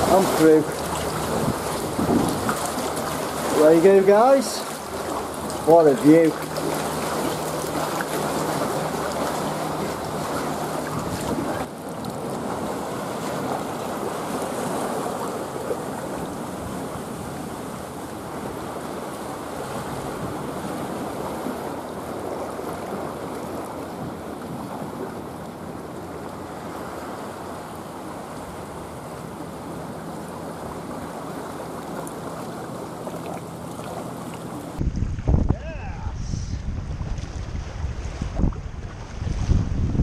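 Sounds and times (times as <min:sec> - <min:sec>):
sea water lapping and sloshing: 0:00.0 - 0:35.5, 0:36.6 - 0:40.0.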